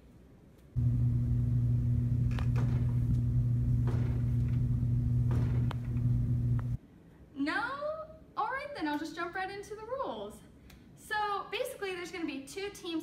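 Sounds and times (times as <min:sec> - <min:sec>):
low electrical hum: 0:00.0 - 0:12.6.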